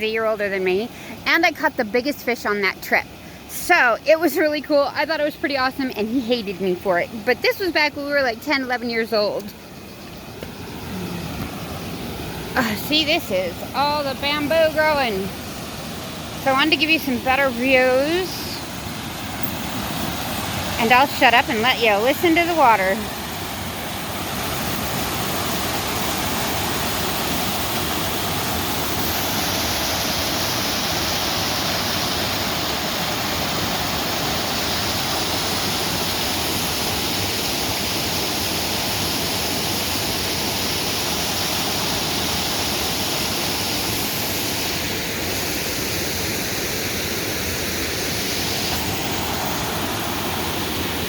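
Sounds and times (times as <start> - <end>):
high hiss: 0.0 - 51.0
waterfall rushing: 9.8 - 51.0.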